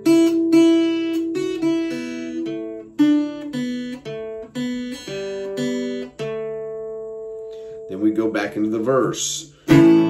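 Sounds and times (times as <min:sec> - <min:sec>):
acoustic guitar strummed: 0:00.0 - 0:10.0.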